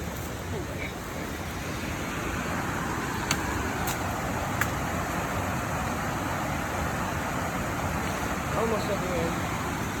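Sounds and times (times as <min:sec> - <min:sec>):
waterfall rushing: 0:00.3 - 0:10.0.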